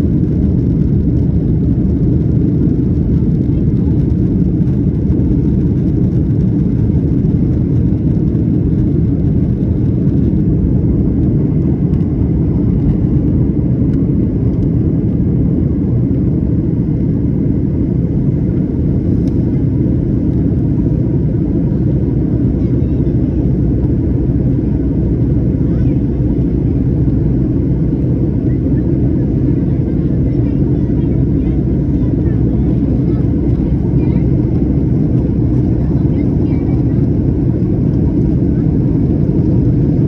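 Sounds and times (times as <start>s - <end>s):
jet engine cabin rumble: 0.0s - 40.0s.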